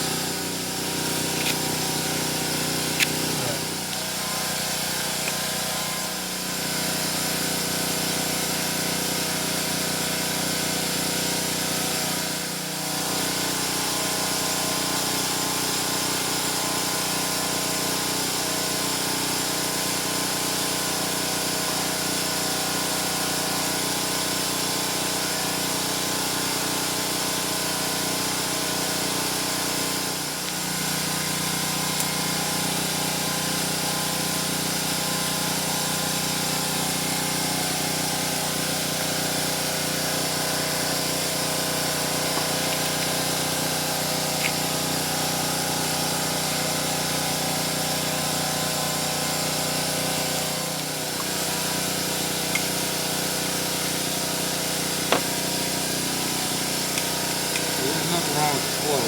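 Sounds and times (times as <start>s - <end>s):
small motor humming: 0.0s - 59.0s.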